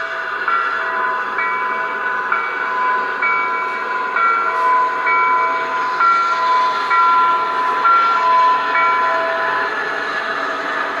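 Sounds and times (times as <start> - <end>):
model locomotive sound effects: 0.0 - 11.0.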